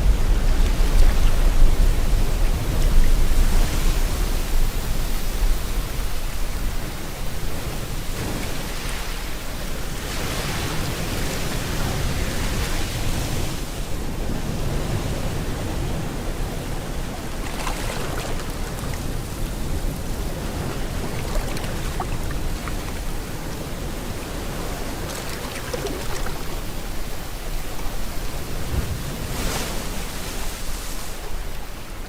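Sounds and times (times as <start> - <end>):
ocean surf: 0.0 - 32.0
rain: 0.0 - 32.0.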